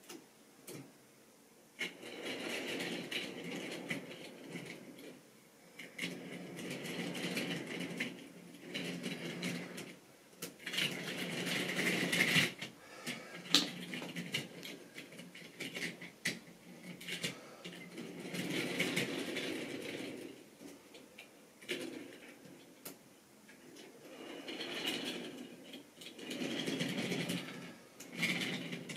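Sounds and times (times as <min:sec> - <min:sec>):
model train wheels clattering: 0:01.8 - 0:05.2, 0:05.8 - 0:28.9.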